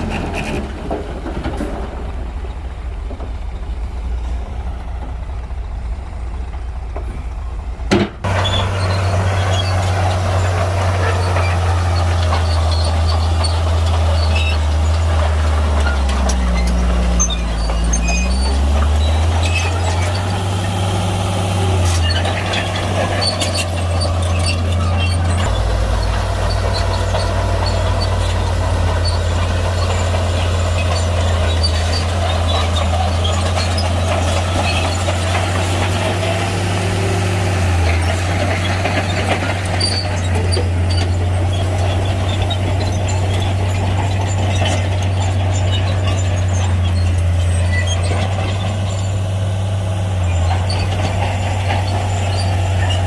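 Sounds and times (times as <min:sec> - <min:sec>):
bulldozer diesel engine: 0:00.0 - 0:53.0.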